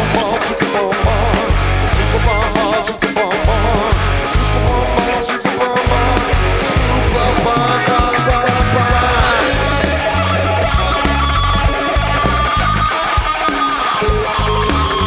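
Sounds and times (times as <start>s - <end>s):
bass line: 0.0s - 2.8s, 3.4s - 15.0s
drums: 0.0s - 15.0s
electric guitar: 0.0s - 15.0s.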